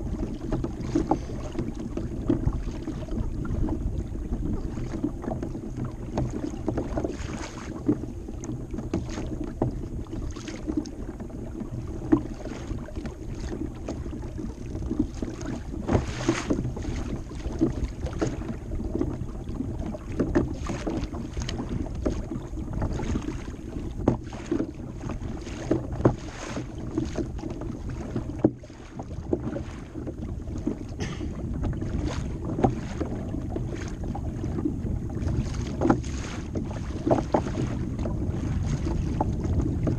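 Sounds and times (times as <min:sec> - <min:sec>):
small waves splashing against hull: 0:00.0 - 0:39.9
wind on microphone: 0:00.0 - 0:39.9.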